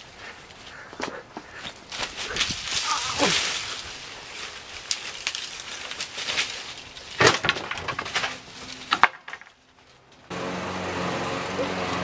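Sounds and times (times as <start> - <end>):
branches rustling and snapping: 0.4 - 10.3.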